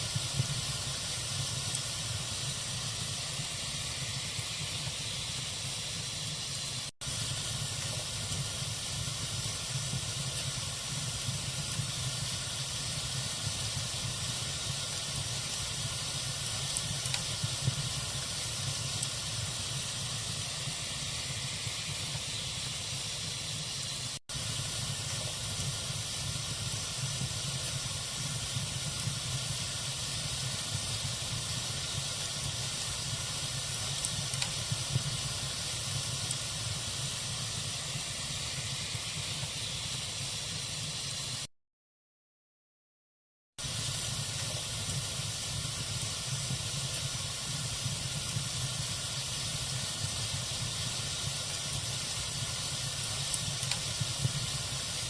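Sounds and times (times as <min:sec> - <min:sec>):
log fire hissing: 0:00.0 - 0:41.5, 0:43.6 - 0:55.0
small fire crackles: 0:00.0 - 0:41.5, 0:43.6 - 0:55.0.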